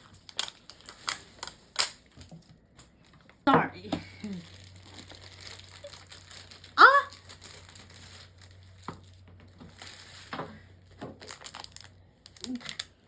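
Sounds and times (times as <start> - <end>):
packaging crinkling and tearing: 0.0 - 3.3, 4.1 - 13.0.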